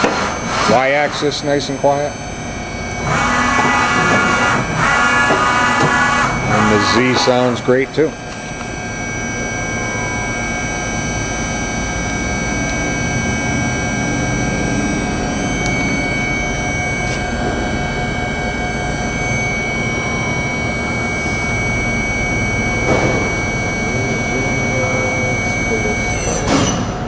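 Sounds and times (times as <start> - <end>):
machine hum with high whine: 0.0 - 27.0.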